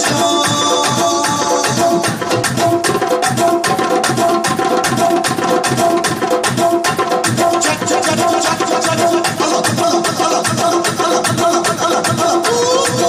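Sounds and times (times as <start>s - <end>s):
tabla and hand drums: 0.0s - 13.0s.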